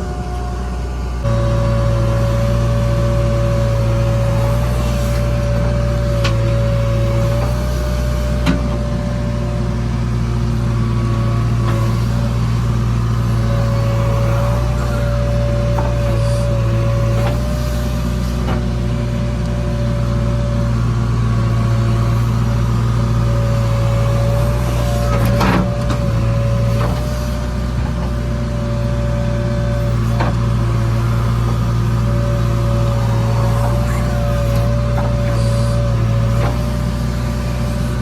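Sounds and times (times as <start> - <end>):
heavy vehicle engine whining: 0.0 - 38.0.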